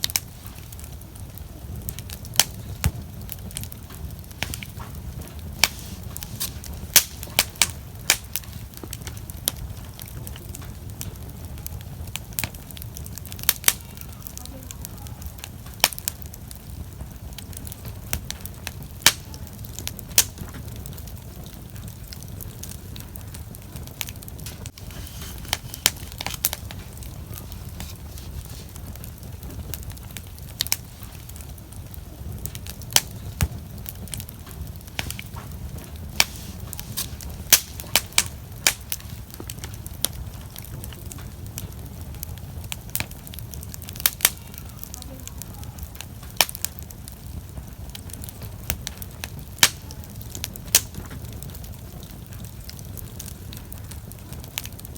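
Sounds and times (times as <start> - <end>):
bonfire crackling and popping: 0.0 - 54.9
low rumble of fire: 0.0 - 54.9.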